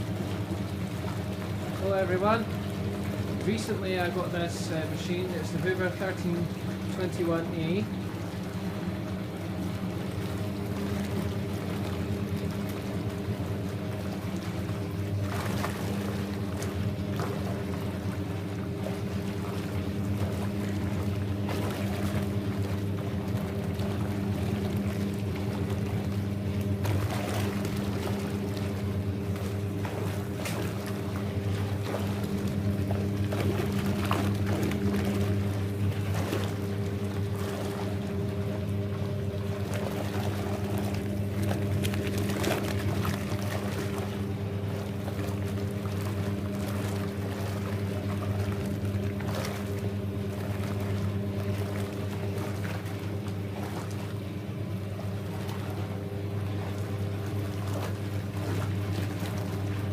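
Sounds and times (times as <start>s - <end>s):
washing machine motor hum: 0.0s - 59.9s
water and towels sloshing: 0.0s - 59.9s.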